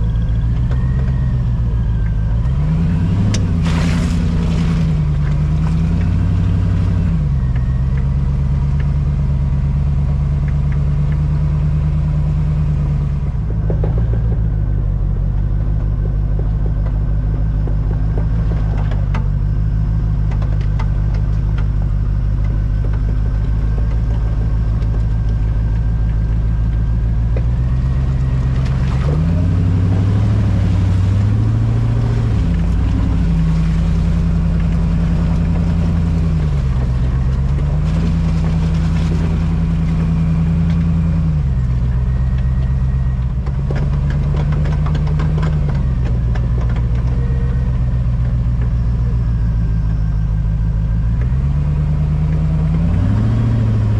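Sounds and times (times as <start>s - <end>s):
car engine revving under load: 0.0s - 53.9s.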